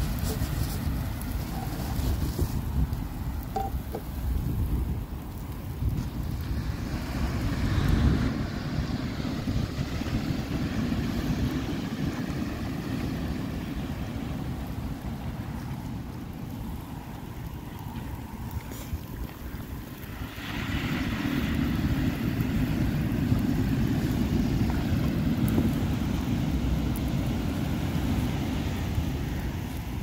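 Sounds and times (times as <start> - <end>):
wind rumbling on microphone: 0.0 - 30.0
surf breaking on beach: 3.5 - 16.0, 16.6 - 30.0.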